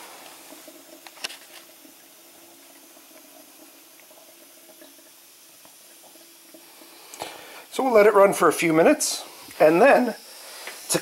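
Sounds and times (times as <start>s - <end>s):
water running into metal sink: 0.0s - 11.0s.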